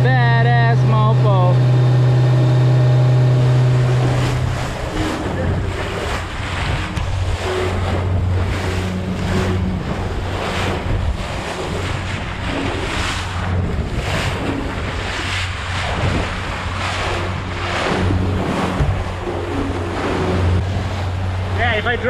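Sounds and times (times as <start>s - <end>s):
boat engine drone: 0.0s - 22.0s
rushing water: 0.0s - 22.0s
wind buffeting microphone: 1.6s - 22.0s.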